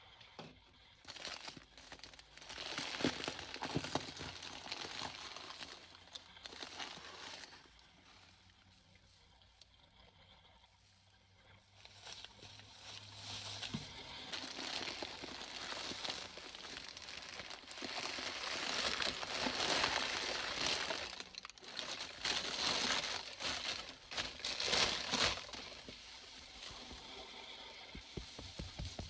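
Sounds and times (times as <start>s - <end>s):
litter crinkling and crackling: 1.0s - 29.0s.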